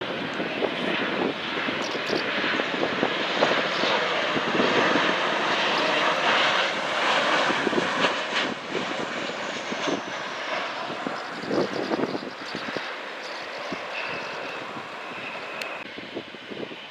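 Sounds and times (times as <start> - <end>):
airliner engines roaring: 0.0 - 16.9
high engine whine: 0.0 - 16.9.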